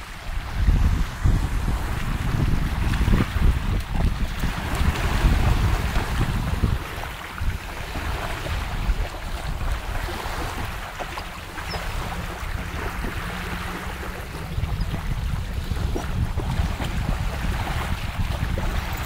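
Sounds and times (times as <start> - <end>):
small waves washing onto shore: 0.0 - 19.0
wind buffeting microphone: 0.0 - 19.0.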